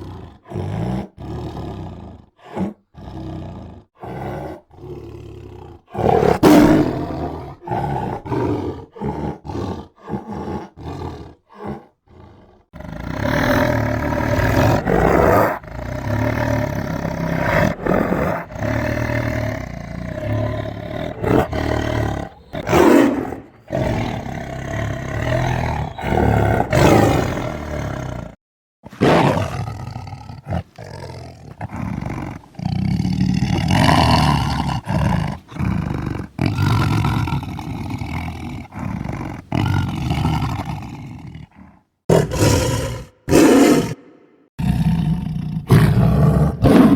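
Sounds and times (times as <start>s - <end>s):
tiger roaring and growling: 0.0s - 46.9s.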